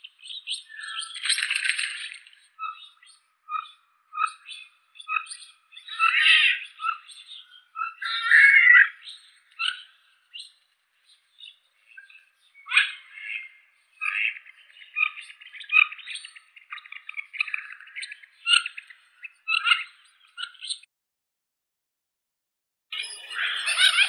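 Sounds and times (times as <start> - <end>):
wood ducks squeaky calls: 0.3 - 10.6, 12.7 - 20.9, 23.0 - 24.0.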